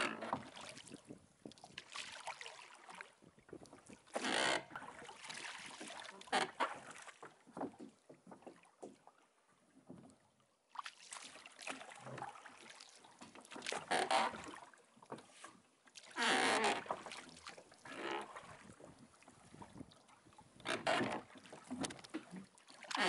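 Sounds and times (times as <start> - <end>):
water splashing around rowboat: 0.0 - 23.0.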